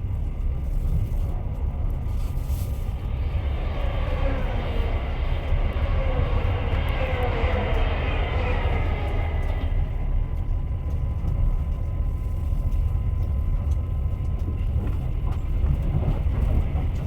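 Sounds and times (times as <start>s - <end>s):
train rumbling on rails: 0.0s - 17.0s
train whine: 1.4s - 17.0s.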